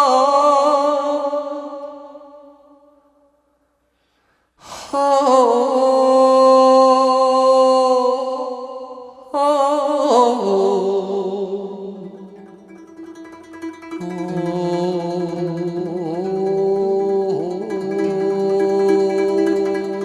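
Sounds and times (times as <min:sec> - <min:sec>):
person singing with vibrato: 0:00.0 - 0:03.0, 0:04.6 - 0:20.0.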